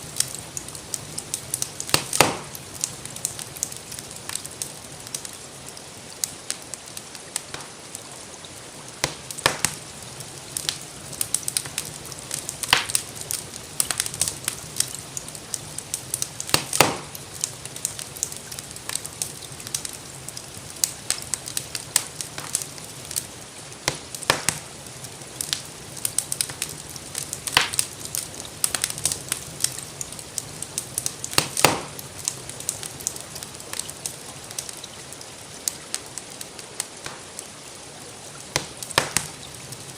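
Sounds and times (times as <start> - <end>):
loud fire pops: 0.0 - 5.3, 7.4 - 7.9, 9.0 - 23.2, 23.8 - 34.8, 37.0 - 37.4, 38.5 - 39.9
rain hiss: 0.0 - 39.9
wood fire crackling: 0.0 - 39.9.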